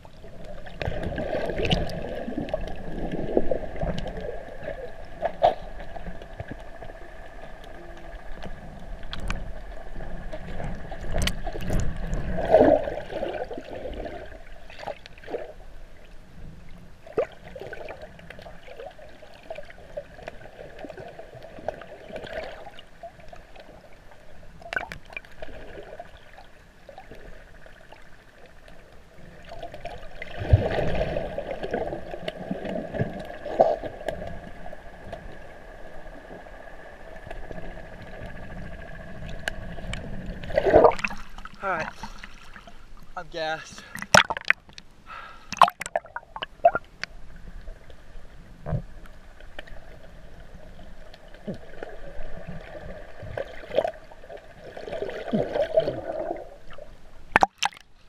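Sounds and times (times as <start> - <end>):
water gurgling and sloshing: 0.0 - 58.0.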